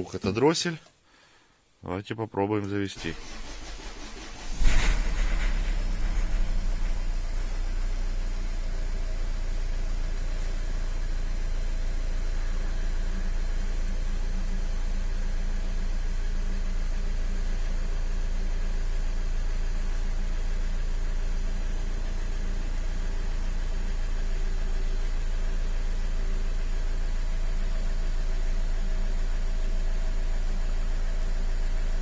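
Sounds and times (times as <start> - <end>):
diesel engine idling: 3.0 - 32.0.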